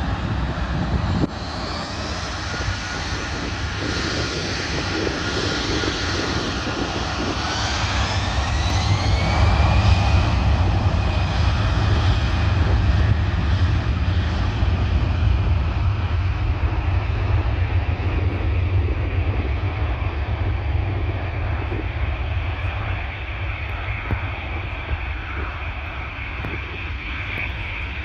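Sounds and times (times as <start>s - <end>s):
airliner engines passing: 0.0s - 28.0s.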